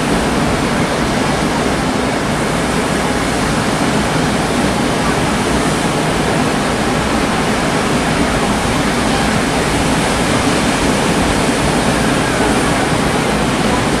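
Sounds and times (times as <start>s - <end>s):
choppy sea waves: 0.0s - 14.0s
wind: 0.0s - 14.0s.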